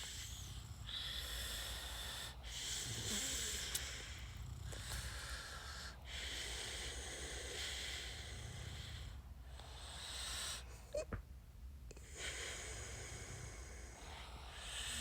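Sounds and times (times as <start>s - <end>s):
person breathing: 0.0s - 11.0s, 12.0s - 15.0s.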